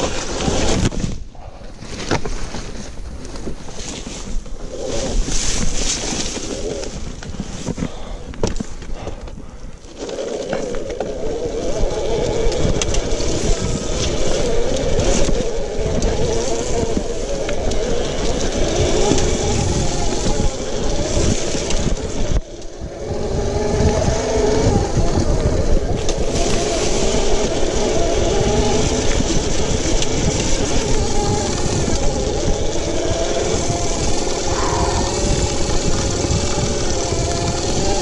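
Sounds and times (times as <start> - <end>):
electric bike on dirt track: 0.0 - 38.0.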